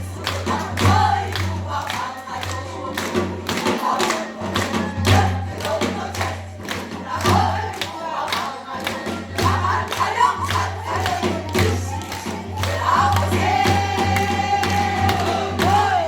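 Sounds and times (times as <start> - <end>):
steady drum beat: 0.0 - 8.2, 8.8 - 16.0
folk song sung in chorus: 0.0 - 16.0.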